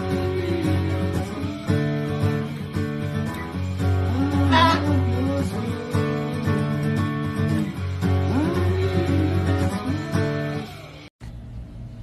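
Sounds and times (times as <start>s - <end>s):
acoustic guitar strumming: 0.0s - 11.1s.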